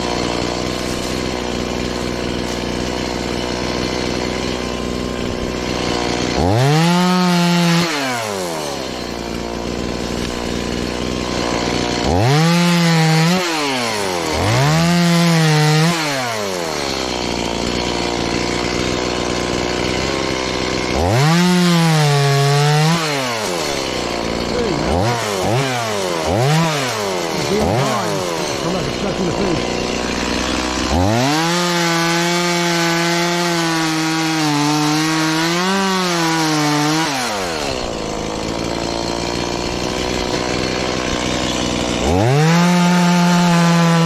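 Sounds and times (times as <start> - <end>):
chainsaw idling and revving: 0.0 - 44.0.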